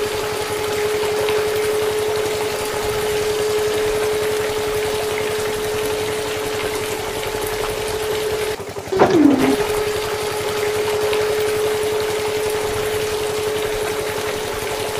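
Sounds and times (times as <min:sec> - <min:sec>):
water pump motor whining: 0:00.0 - 0:14.9
water jets splashing: 0:00.2 - 0:14.9.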